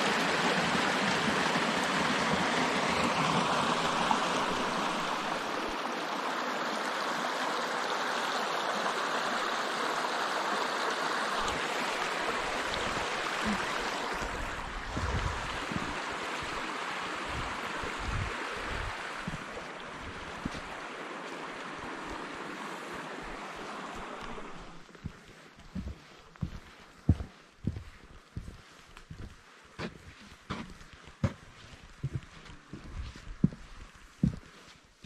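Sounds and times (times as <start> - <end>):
stream water rushing: 0.0 - 34.7.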